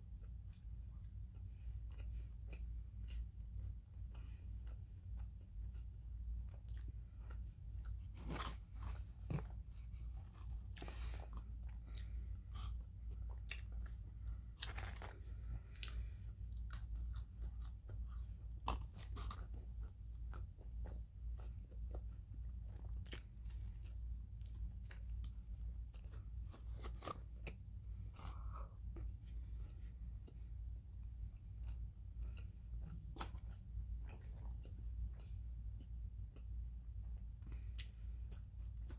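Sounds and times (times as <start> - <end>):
chewing and biting food: 0.0 - 38.9
steady low hum: 0.0 - 38.9.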